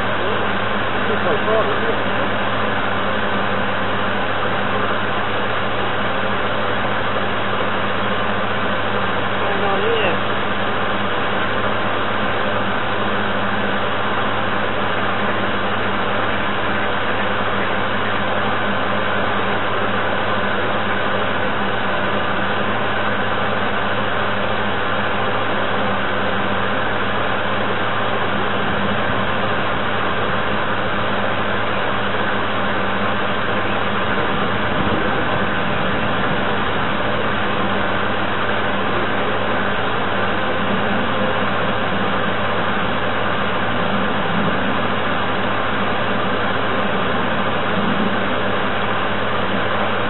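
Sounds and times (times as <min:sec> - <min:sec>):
model boat motor humming: 0:00.0 - 0:50.0.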